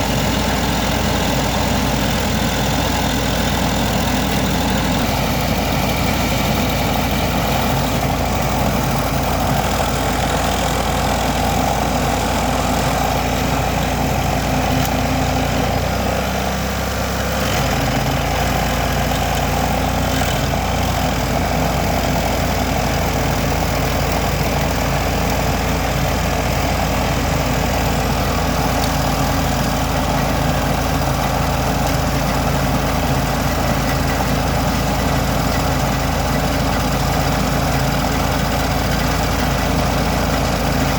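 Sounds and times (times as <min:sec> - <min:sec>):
stump grinder engine running: 0:00.0 - 0:40.9.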